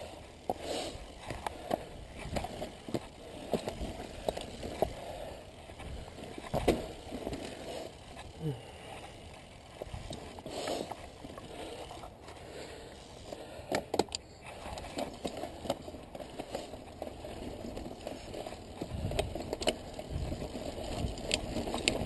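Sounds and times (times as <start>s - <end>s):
bike tyres crunching on gravel: 0.0s - 13.6s, 14.4s - 22.0s
rocks and bike parts rattling: 0.0s - 22.0s.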